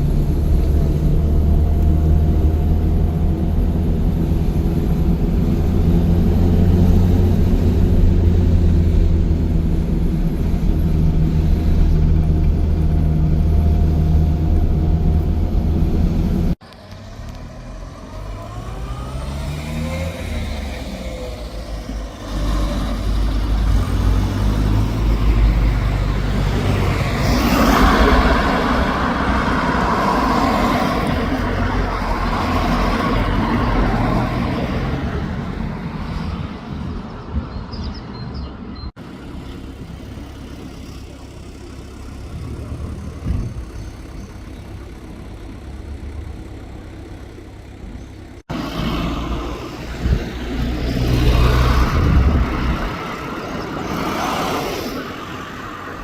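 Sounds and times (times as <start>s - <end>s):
small car engine running: 0.0s - 35.3s, 39.0s - 56.0s
road noise: 0.0s - 56.0s.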